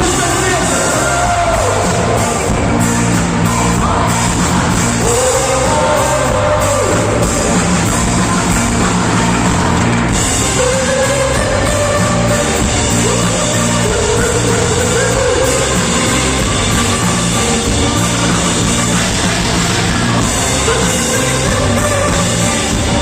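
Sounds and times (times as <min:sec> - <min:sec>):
rock band playing: 0:00.0 - 0:23.0
singer holding long notes: 0:00.0 - 0:23.0.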